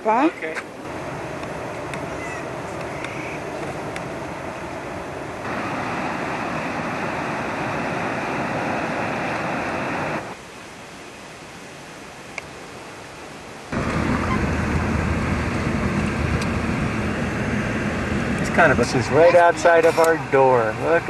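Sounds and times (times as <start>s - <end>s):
river and waterfall roaring: 0.0s - 21.0s.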